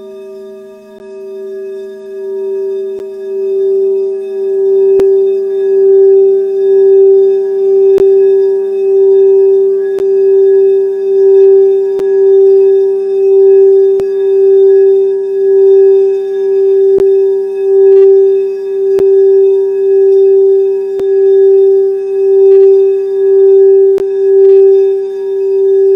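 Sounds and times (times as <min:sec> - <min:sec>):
singing bowl ringing: 0:00.0 - 0:25.9.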